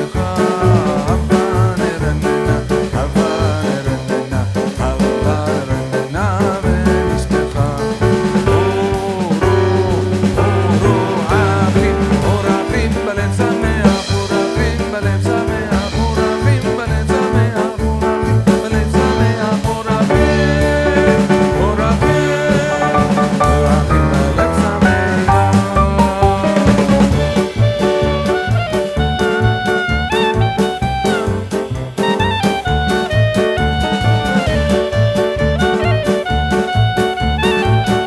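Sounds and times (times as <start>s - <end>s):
drum kit beat: 0.0s - 38.0s
upbeat swing instrumental music: 0.0s - 38.0s.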